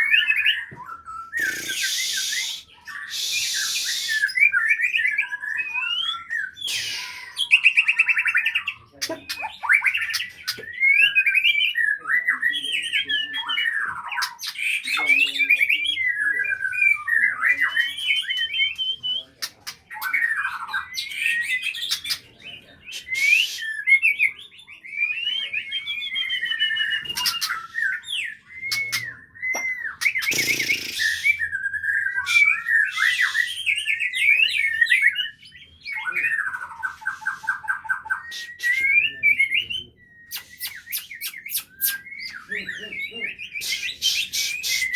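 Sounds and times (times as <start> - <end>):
bird singing whistled phrases: 0.0 - 22.2, 22.8 - 44.9.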